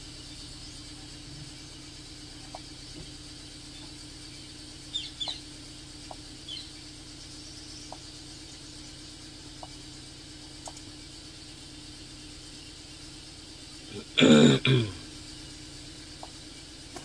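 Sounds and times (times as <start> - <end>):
car engine idling roughly: 0.0 - 17.0.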